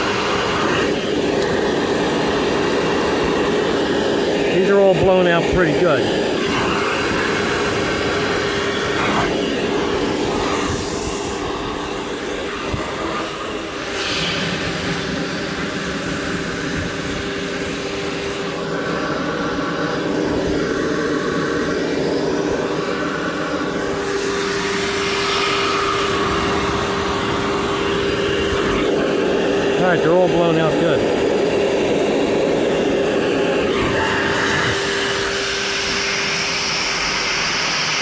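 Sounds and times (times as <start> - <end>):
shop vac motor whine: 0.0 - 38.0.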